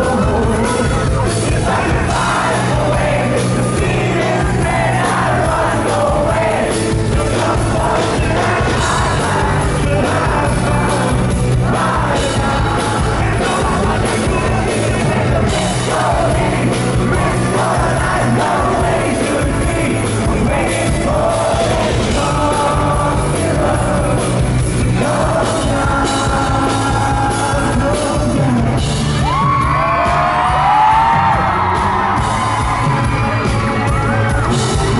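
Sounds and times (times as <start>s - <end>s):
man singing: 0.0s - 29.0s
live rock band playing: 0.0s - 34.9s.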